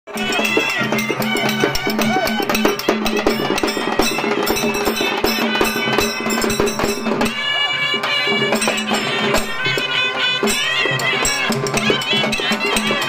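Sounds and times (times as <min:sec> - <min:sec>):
drums beating rhythmically: 0:00.1 - 0:13.0
wavering reed melody: 0:00.1 - 0:13.0.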